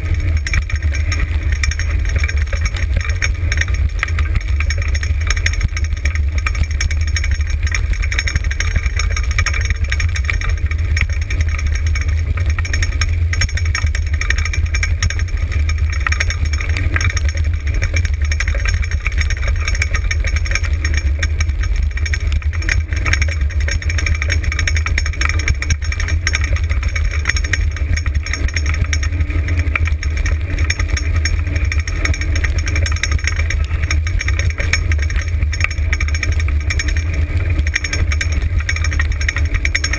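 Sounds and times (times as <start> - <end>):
cart rolling over dirt: 0.0 - 39.9.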